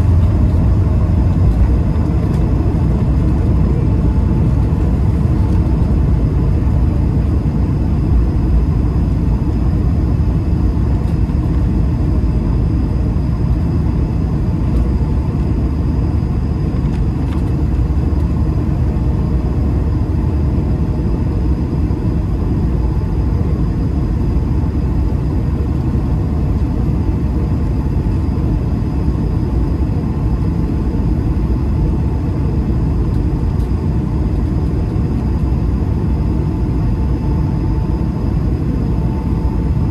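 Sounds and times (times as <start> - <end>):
airplane cabin rumble: 0.0 - 39.9
faint steady engine tones: 0.0 - 39.9.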